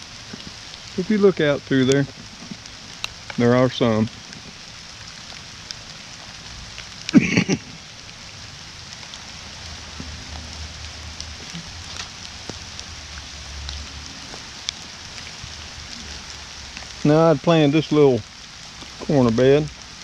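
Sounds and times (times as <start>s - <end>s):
light rain pattering: 0.0s - 20.0s.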